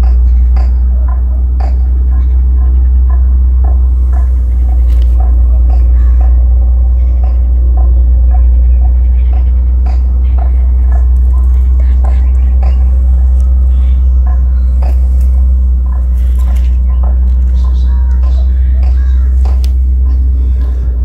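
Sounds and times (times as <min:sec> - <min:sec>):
loud low rumble: 0:00.0 - 0:21.0.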